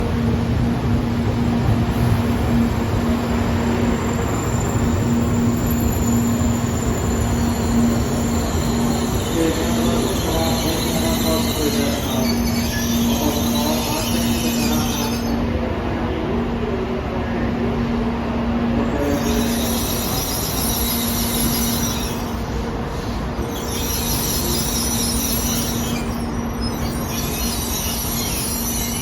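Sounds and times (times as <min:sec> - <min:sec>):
high-speed train rumble: 0:00.0 - 0:29.0.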